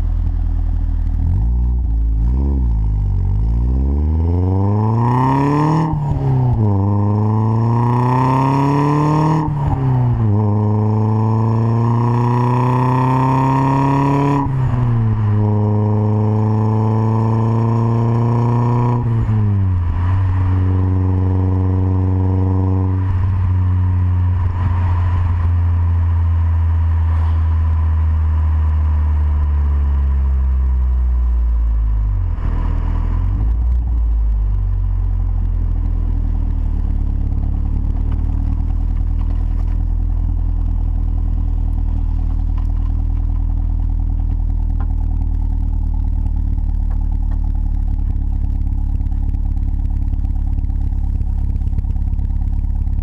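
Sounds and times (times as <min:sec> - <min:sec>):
turbocharged car engine: 0:00.0 - 0:53.0.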